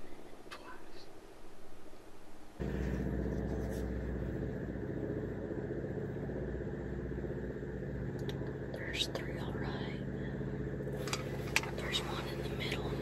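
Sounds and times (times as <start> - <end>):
low engine-like hum: 2.6 - 13.0.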